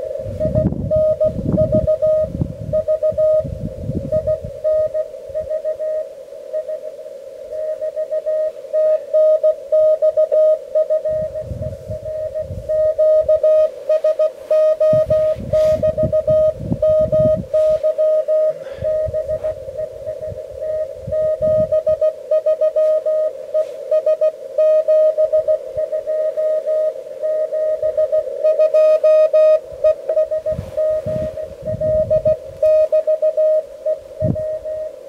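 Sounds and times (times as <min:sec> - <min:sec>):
wind rumbling on microphone: 0:00.0 - 0:06.7, 0:07.4 - 0:35.0
morse code beeps: 0:00.0 - 0:35.0.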